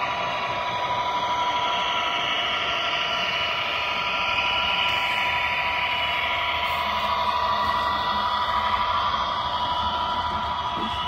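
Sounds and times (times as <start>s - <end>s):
model train motor whine: 0.0s - 11.0s
wheels hissing on rail: 0.0s - 11.0s.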